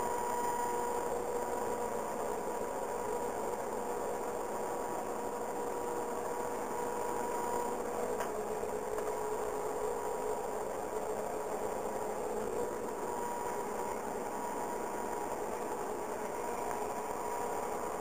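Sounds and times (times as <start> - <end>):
steady whine: 0.0 - 18.0.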